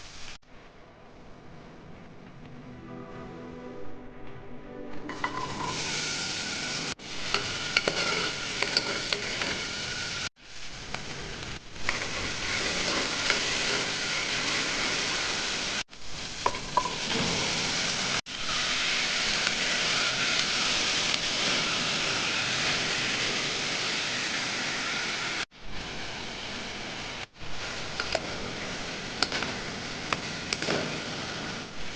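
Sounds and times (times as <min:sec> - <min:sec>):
food sizzling in oil: 0:00.0 - 0:00.4, 0:05.1 - 0:31.9.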